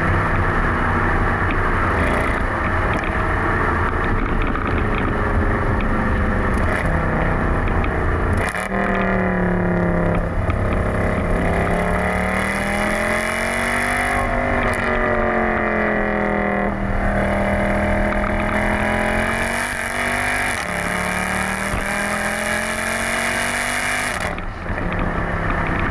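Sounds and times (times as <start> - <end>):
car exhaust drone while driving: 0.0 - 25.9.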